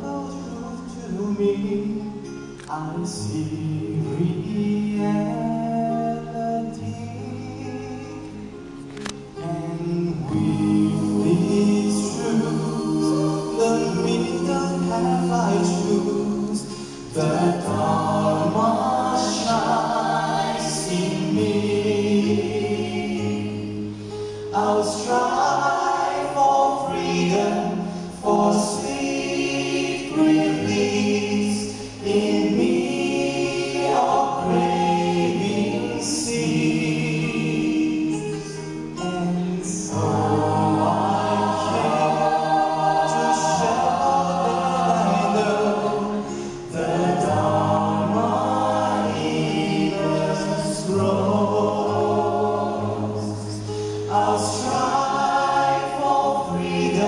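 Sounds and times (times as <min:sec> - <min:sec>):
mixed vocal group singing in harmony: 0:00.0 - 0:57.0.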